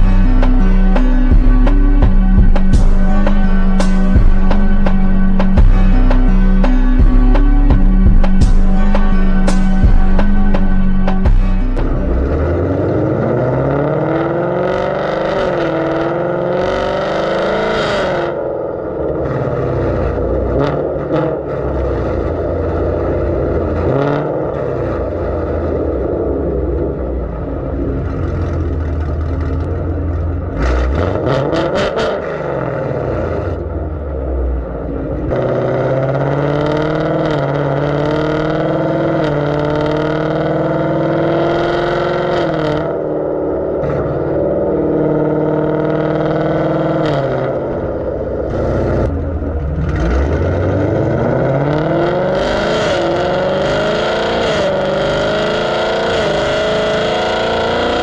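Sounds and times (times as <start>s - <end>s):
car exhaust rumbling and accelerating: 0.0s - 58.0s.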